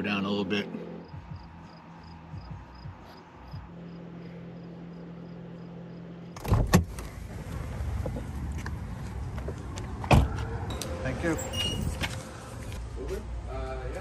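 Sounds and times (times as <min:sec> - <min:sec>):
outdoor traffic noise: 0:00.0 - 0:14.0.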